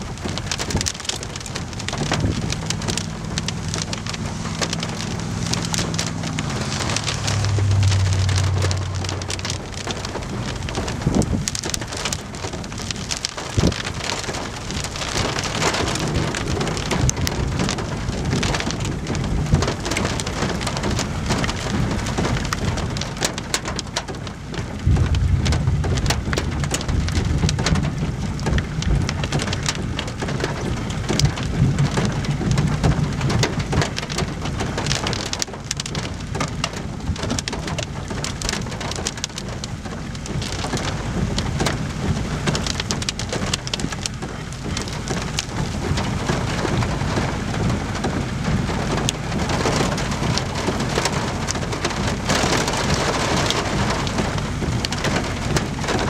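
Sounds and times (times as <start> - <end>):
low thunder rumble: 0.0 - 56.0
steady rain: 0.0 - 56.0.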